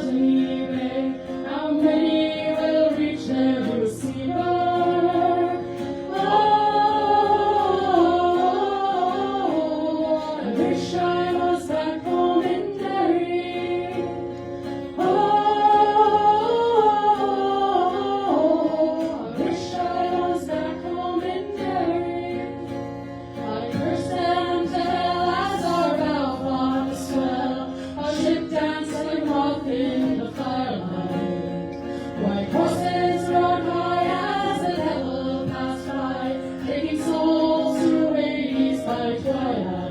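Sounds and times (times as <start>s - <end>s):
group singing in harmony: 0.0s - 39.9s.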